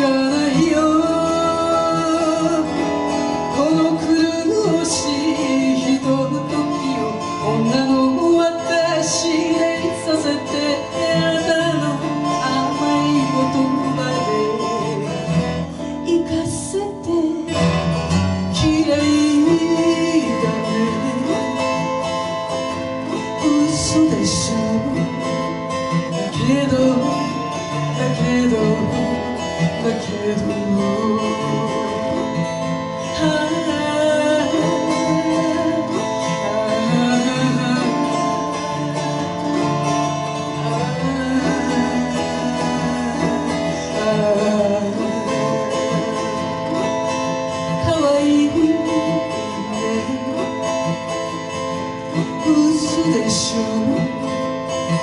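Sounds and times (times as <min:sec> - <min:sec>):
acoustic guitar chords: 0:00.0 - 0:55.0
woman singing: 0:00.0 - 0:55.0.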